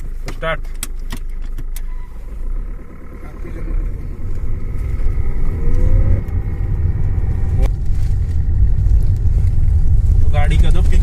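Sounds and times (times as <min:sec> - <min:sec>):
car engine rumble: 0:00.0 - 0:11.0
faint rising whine: 0:01.8 - 0:11.0.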